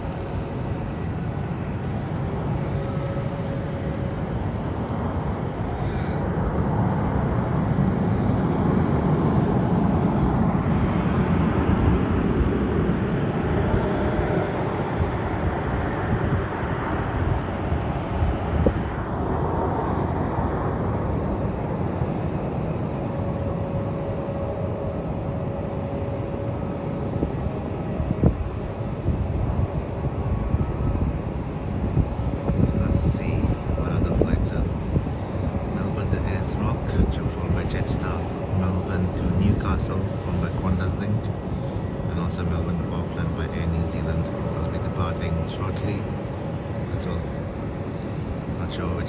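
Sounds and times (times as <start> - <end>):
jet engines rumbling: 0.0 - 49.0.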